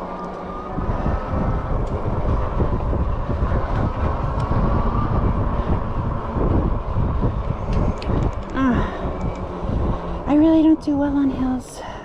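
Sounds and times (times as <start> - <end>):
electric motor whine: 0.0 - 12.0
wind rumbling on microphone: 0.0 - 12.0.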